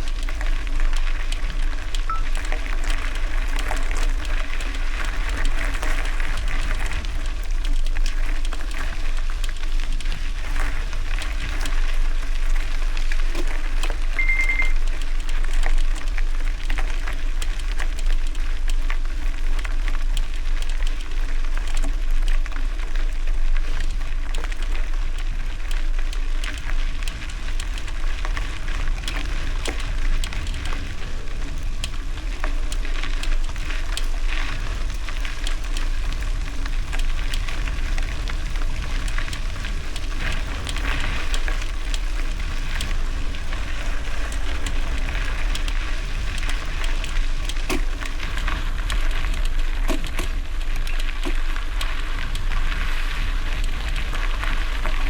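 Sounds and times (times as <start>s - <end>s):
bicycle tyres rolling over gravel: 0.0s - 55.0s.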